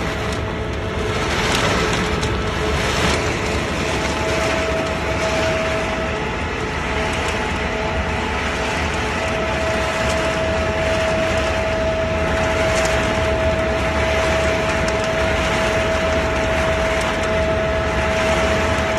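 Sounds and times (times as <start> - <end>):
machine whine: 0.0 - 18.9
machinery humming: 0.0 - 18.9.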